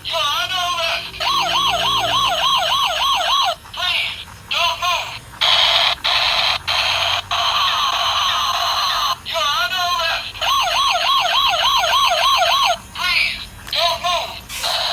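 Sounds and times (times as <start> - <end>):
toy police car electronic siren: 0.1 - 14.9.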